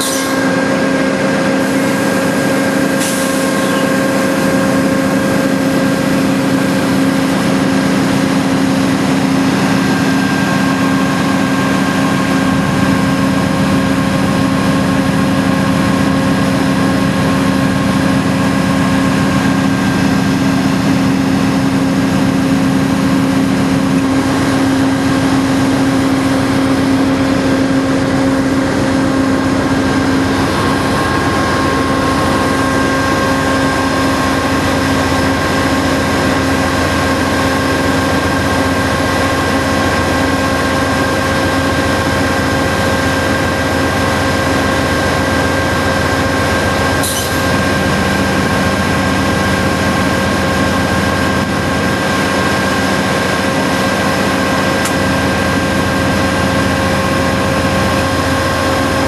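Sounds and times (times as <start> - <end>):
locomotive diesel engine droning: 0.0 - 59.0.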